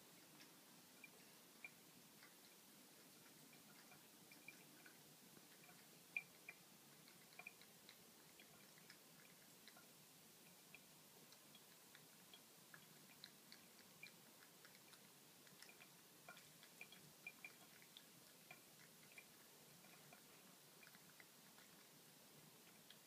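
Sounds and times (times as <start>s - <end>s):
soft steady hiss: 0.0s - 23.0s
cat lapping water: 0.2s - 23.0s.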